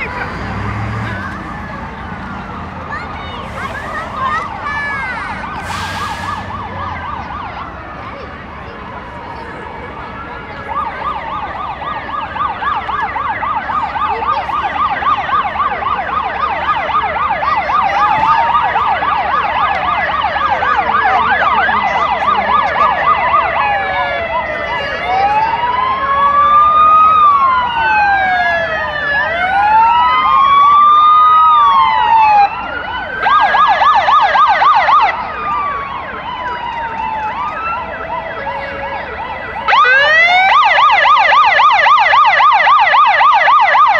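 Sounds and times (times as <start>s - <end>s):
fire engine sirens: 0.0s - 43.9s.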